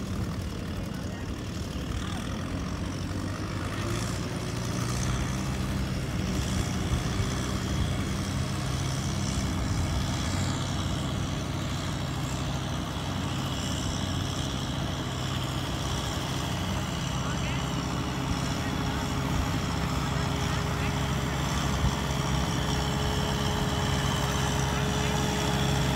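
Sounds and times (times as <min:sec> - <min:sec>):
diesel tractor engines running: 0:00.0 - 0:25.9.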